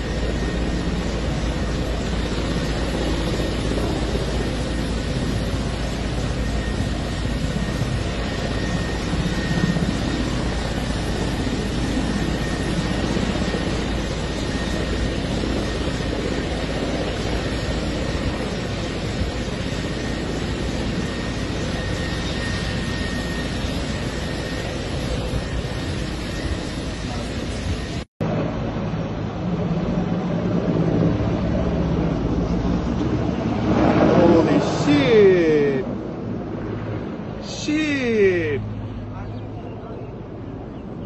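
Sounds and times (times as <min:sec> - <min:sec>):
helicopter turbine engines running: 0:00.0 - 0:41.0.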